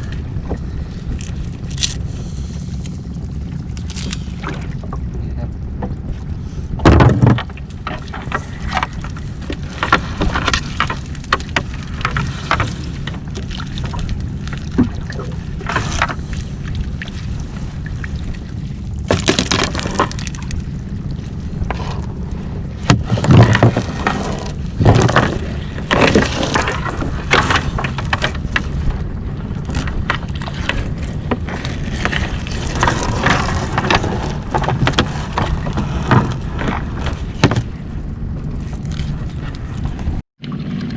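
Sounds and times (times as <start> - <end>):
boat engine low rumble: 0.0 - 40.9
water splashing: 0.0 - 40.9.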